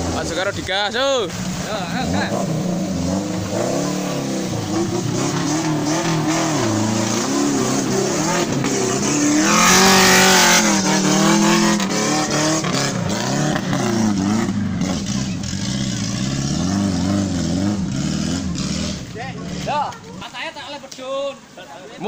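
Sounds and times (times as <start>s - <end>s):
engine revving: 0.0s - 20.0s
loud rush of noise: 0.0s - 20.2s.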